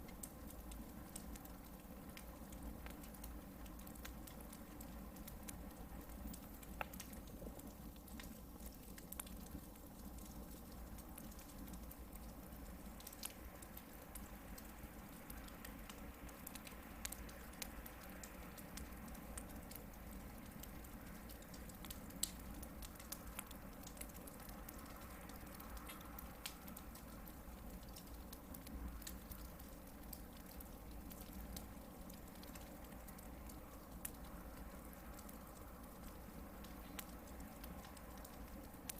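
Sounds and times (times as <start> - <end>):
campfire crackles and pops: 0.0 - 38.9.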